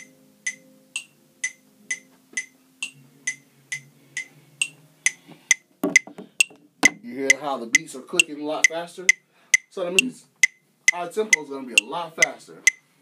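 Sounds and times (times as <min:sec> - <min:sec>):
metronome clicking: 0:00.0 - 0:12.9.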